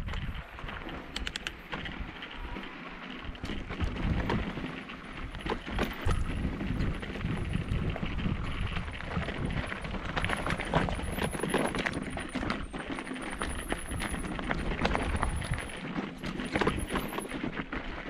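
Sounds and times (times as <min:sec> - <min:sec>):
bike clicking and rattling: 0:00.0 - 0:18.0
mountain bike tyres rolling on dirt: 0:00.0 - 0:18.0.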